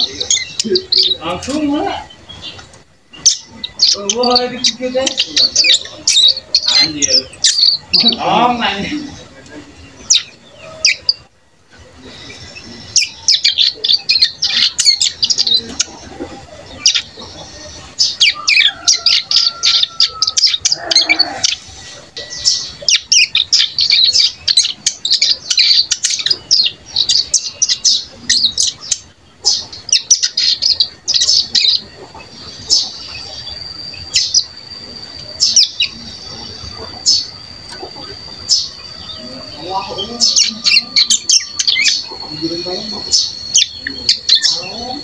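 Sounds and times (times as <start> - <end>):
young bird twittering: 0.0 - 45.0.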